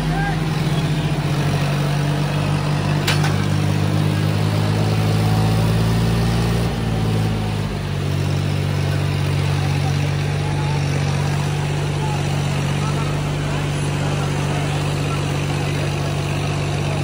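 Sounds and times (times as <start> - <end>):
tractor diesel engines under load: 0.0 - 17.0.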